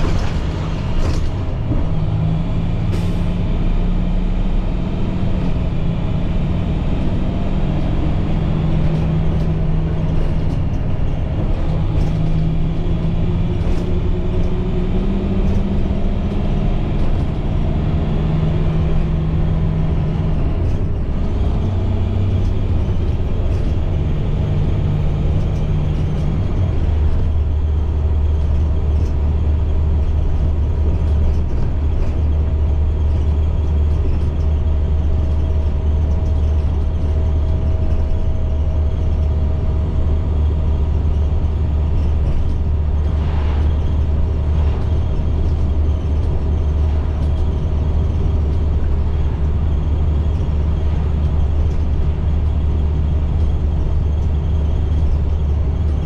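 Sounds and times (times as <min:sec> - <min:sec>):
bus diesel engine running: 0:00.0 - 0:56.0
deep low drone: 0:00.0 - 0:56.0
rattles inside bus: 0:00.0 - 0:56.0
road noise: 0:00.0 - 0:56.0.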